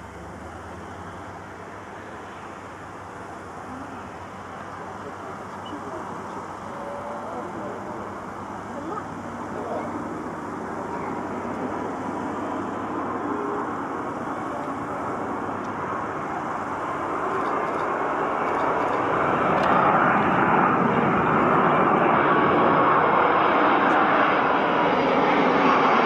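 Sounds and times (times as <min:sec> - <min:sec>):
jet engine roar with whine: 0:00.0 - 0:26.0.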